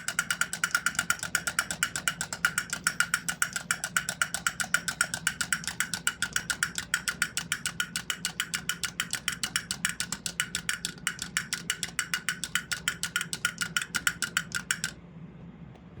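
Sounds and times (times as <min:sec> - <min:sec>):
toy drum rattling taps: 0:00.0 - 0:15.0.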